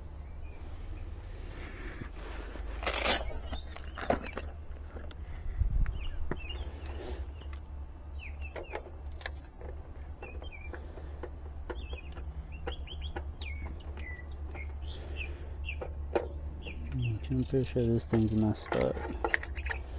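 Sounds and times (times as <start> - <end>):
small birds chirping: 0.0 - 19.9
steady low hum: 0.0 - 19.9.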